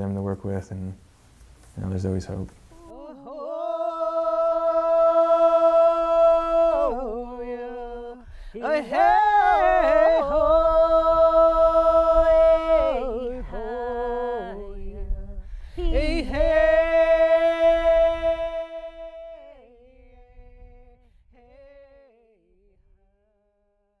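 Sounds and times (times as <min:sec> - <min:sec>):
solo voice singing: 0:02.7 - 0:22.4.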